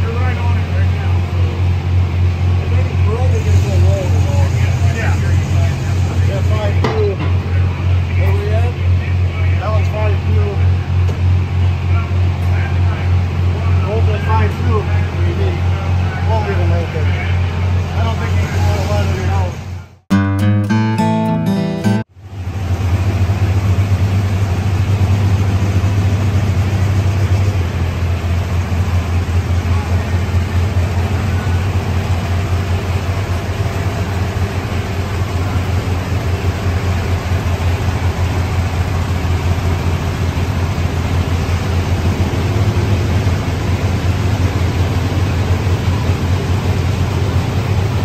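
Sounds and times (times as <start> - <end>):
diesel tractor engine idling: 0.0 - 20.0, 22.2 - 48.0.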